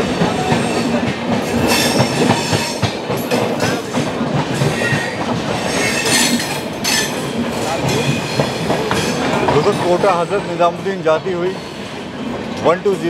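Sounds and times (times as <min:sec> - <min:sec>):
train coaches rumbling: 0:00.0 - 0:13.0.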